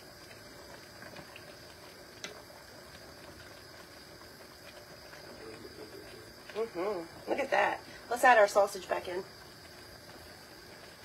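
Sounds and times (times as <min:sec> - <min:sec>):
soup bubbling in a pot: 0:00.0 - 0:11.0.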